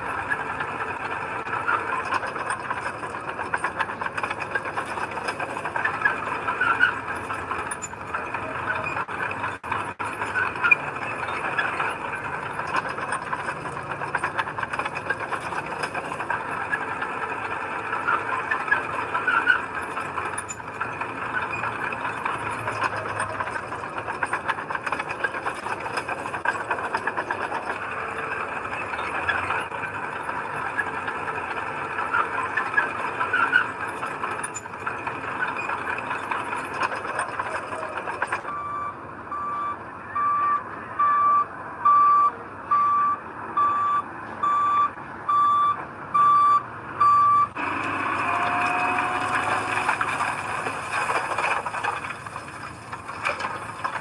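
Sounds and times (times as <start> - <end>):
metallic squealing and rattling: 0.0 - 41.4, 47.4 - 54.0
diesel engine noise: 0.0 - 54.0.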